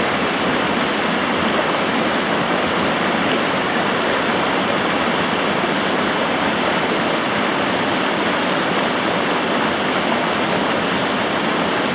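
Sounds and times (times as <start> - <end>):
river rushing over riffles: 0.0 - 11.9.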